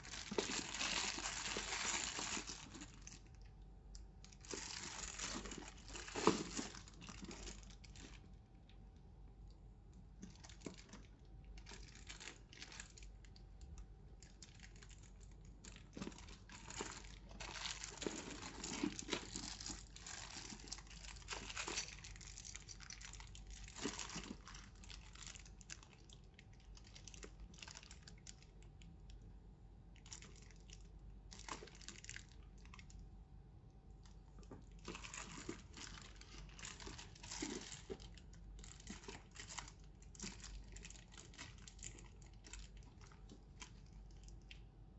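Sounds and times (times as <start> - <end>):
packaging crinkling and rustling: 0.0 - 8.4, 10.1 - 28.9, 30.0 - 33.0, 34.0 - 44.6.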